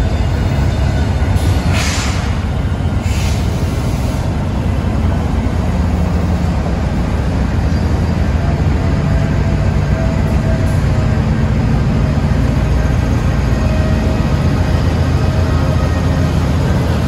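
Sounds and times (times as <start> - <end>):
locomotive engines rumbling: 0.0 - 17.0.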